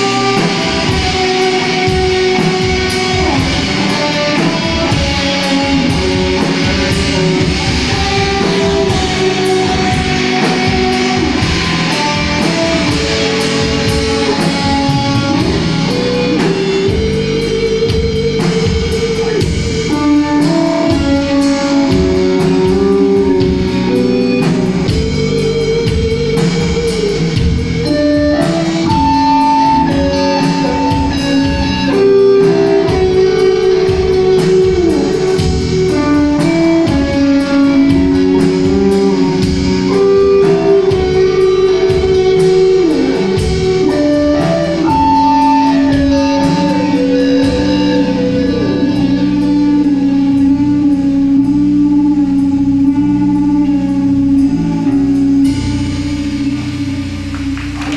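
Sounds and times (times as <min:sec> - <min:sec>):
steady drum hits: 0:00.0 - 0:48.0
doom metal band playing live: 0:00.0 - 0:57.9
slow sliding guitar melody: 0:00.0 - 0:57.9.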